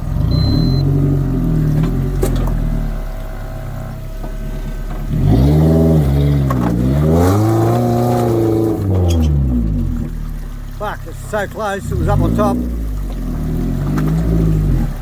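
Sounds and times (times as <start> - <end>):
engine revving under load: 0.0 - 15.0.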